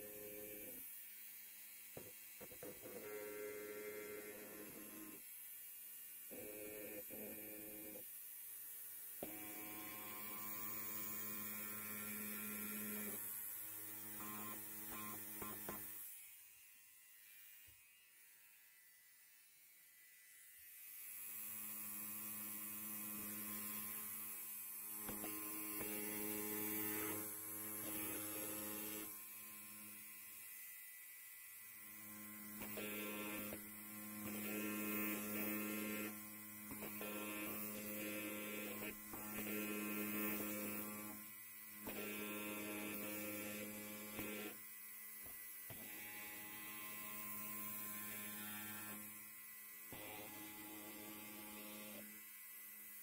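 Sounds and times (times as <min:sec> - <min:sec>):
electric hair clipper buzzing: 0:00.0 - 0:53.0.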